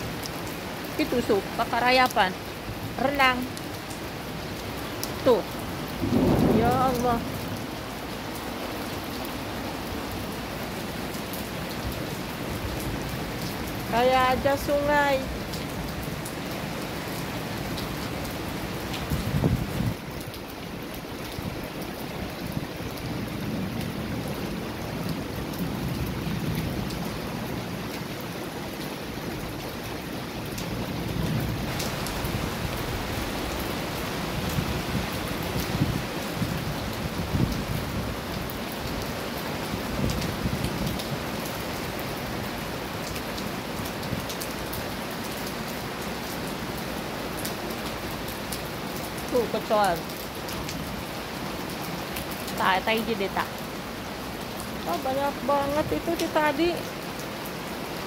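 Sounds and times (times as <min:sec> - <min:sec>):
heavy rain on standing water: 0:00.0 - 0:58.0.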